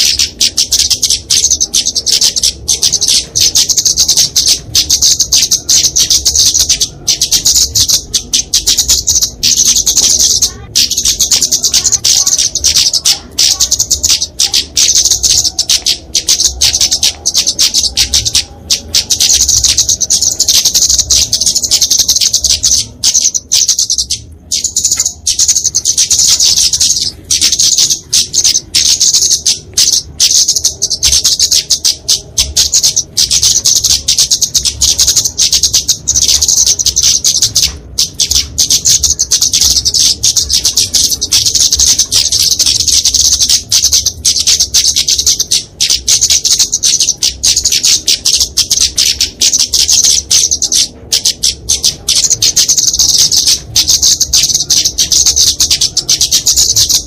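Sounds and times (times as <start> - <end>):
bird chattering calls: 0.0 - 57.0.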